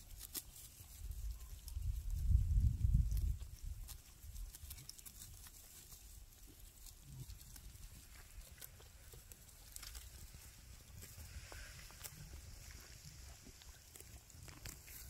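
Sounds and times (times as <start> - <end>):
sheep tearing and chewing grass: 0.0 - 15.0.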